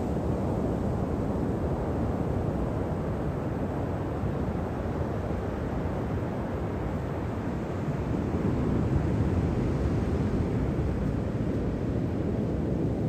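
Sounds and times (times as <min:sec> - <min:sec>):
surf washing up a sandy beach: 0:00.0 - 0:13.0.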